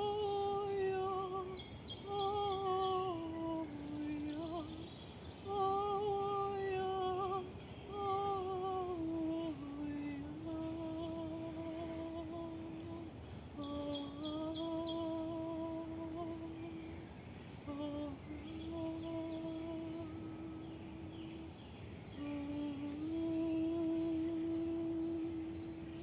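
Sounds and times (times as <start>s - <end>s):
woman's wordless chant: 0.0s - 26.0s.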